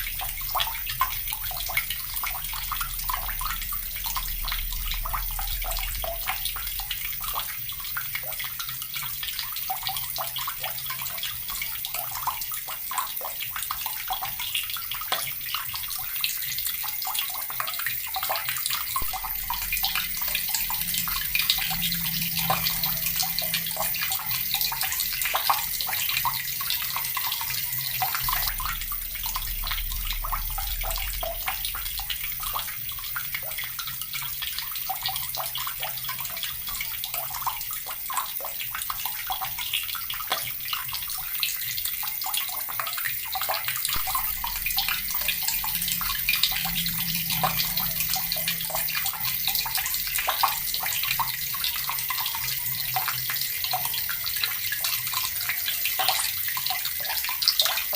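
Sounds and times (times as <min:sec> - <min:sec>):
water running from a tap: 0:00.0 - 0:57.9.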